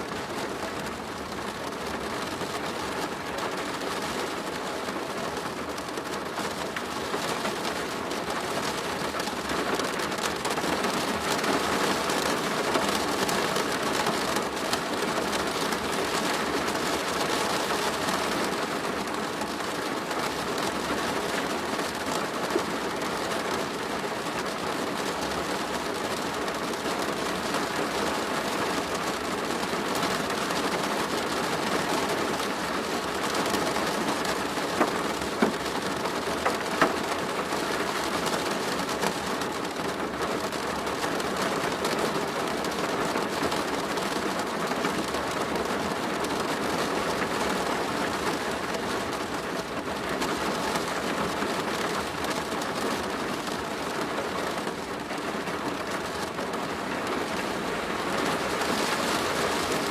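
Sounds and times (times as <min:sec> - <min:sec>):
rain pattering on plastic roof: 0:00.0 - 0:59.9.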